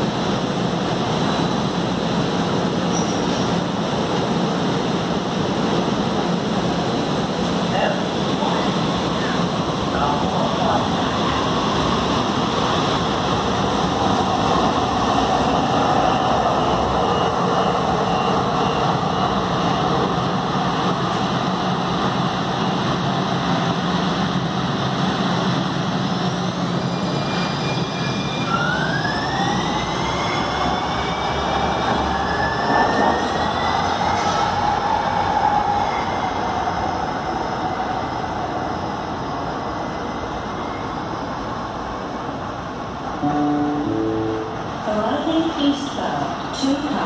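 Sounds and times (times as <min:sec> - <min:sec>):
train rumble and hum: 0:00.0 - 0:47.0.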